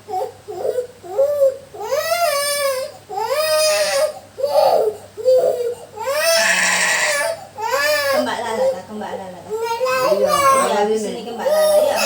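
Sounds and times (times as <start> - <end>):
small child crying: 0.1 - 8.4, 9.6 - 12.0.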